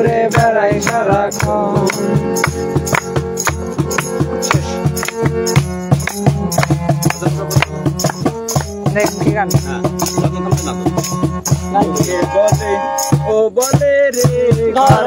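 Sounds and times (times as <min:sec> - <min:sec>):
hand percussion beat: 0:00.0 - 0:15.0
harmonium melody: 0:00.0 - 0:15.0.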